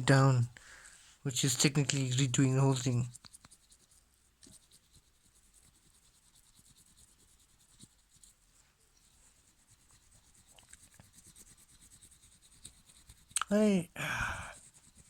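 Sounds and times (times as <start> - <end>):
faint rubbing on toy car: 1.3 - 13.4, 14.5 - 15.0.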